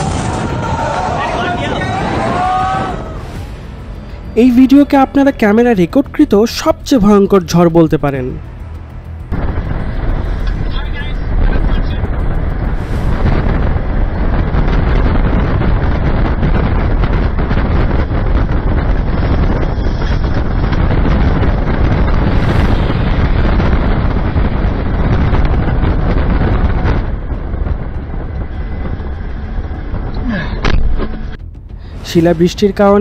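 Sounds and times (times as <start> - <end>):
storm wind on microphone: 0.0 - 33.0.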